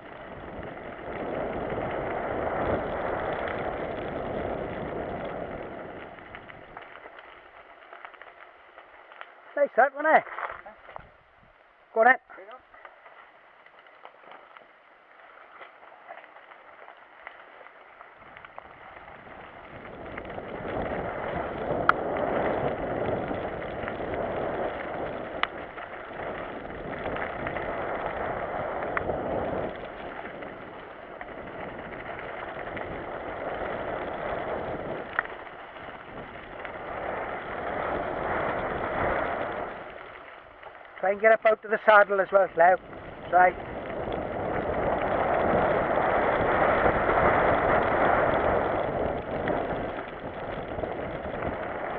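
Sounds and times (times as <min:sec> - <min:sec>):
wind rushing over microphone: 0:00.0 - 0:08.3, 0:18.0 - 0:51.9
sharp clicks from bike: 0:00.0 - 0:09.5, 0:12.8 - 0:51.9
bike tyres on rough ground: 0:00.0 - 0:51.9.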